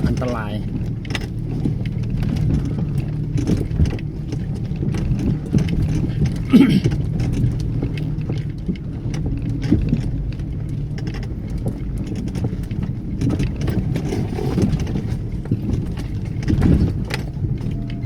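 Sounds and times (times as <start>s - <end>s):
knocks and clicks: 0.0s - 18.0s
vehicle engine running at low revs: 0.0s - 18.0s.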